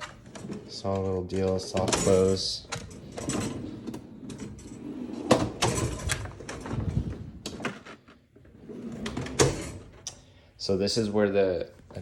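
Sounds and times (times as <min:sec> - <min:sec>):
toolbox drawers sliding: 0:00.0 - 0:10.0.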